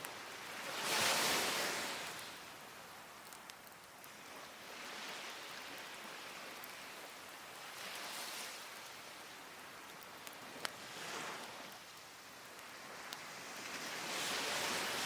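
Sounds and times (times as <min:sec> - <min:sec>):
small waves washing on beach: 0:00.0 - 0:15.0
wood fire crackling: 0:00.0 - 0:15.0.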